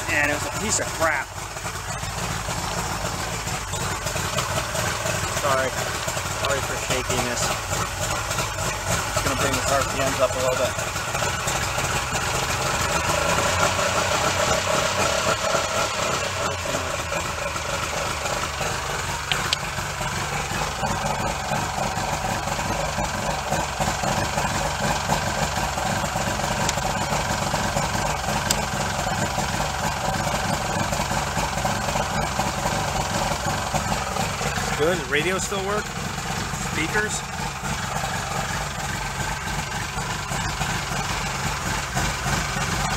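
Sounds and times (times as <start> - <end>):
outboard motor idling: 0.0 - 42.9.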